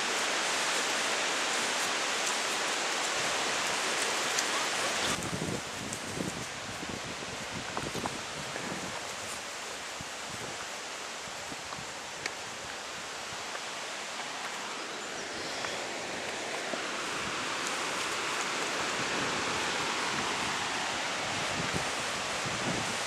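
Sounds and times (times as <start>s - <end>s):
outdoor rustling hiss: 0.0s - 23.0s.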